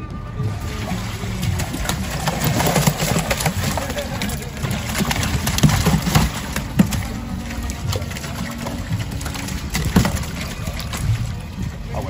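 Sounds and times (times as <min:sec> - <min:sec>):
fish slapping in plastic tub: 0:00.4 - 0:12.0.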